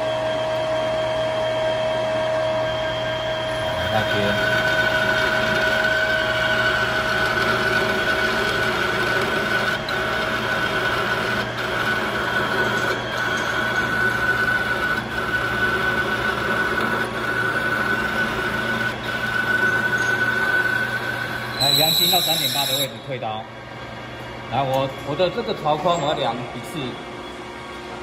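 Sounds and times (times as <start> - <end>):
metal lathe whine and hum: 0.0 - 28.0.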